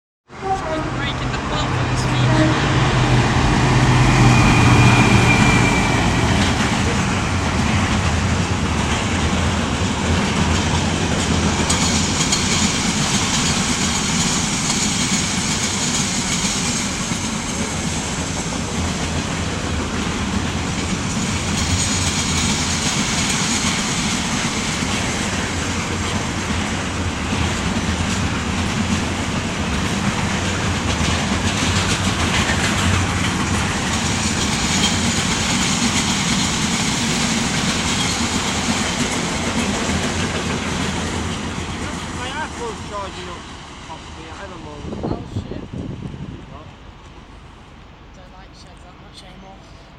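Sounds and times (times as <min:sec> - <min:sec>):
diesel locomotive engine: 0:00.3 - 0:49.9
train wheels rolling on rails: 0:00.3 - 0:49.9.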